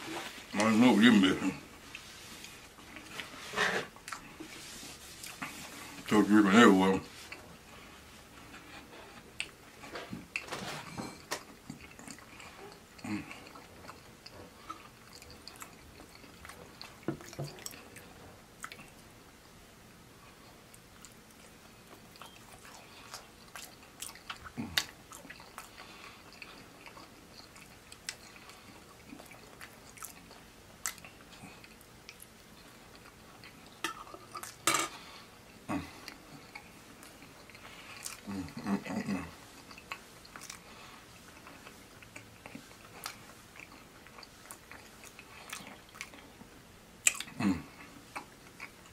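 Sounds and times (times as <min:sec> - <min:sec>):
chewing food: 0:00.2 - 0:06.2, 0:07.2 - 0:19.1, 0:20.2 - 0:48.9.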